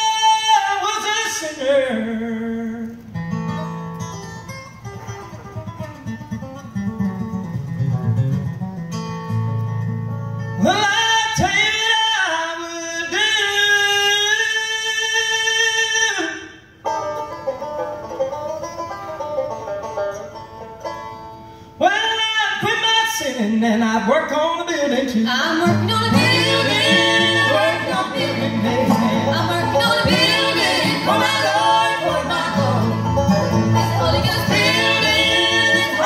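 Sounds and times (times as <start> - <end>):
bluegrass band playing: 0.0 - 11.7, 16.8 - 23.9, 24.8 - 36.0.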